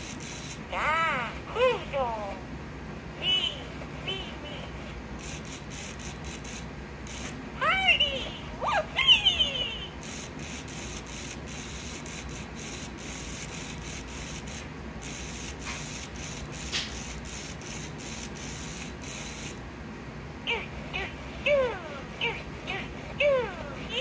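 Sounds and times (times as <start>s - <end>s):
toy motor and gears whirring: 0.0s - 2.4s, 3.2s - 19.6s, 20.5s - 24.0s.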